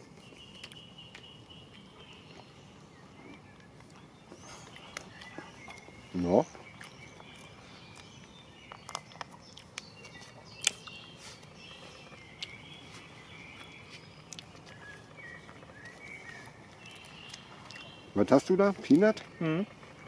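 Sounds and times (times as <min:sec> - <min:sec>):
birds singing faintly: 0:00.0 - 0:20.0.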